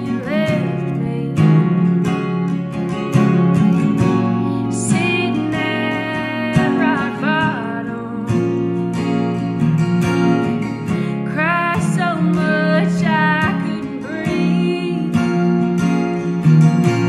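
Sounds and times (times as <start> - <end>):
woman singing: 0.0 - 2.9, 3.8 - 9.3, 10.9 - 16.2
acoustic guitars strummed: 0.0 - 17.0.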